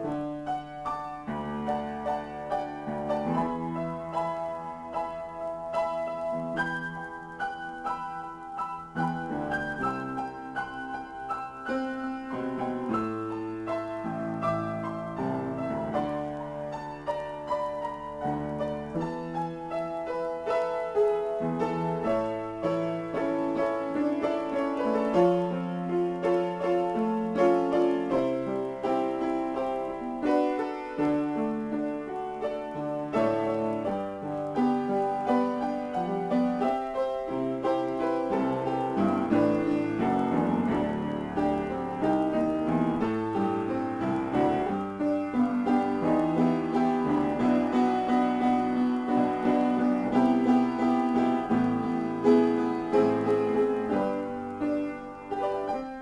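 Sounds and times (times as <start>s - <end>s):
solo piano improvisation: 0.0s - 56.0s.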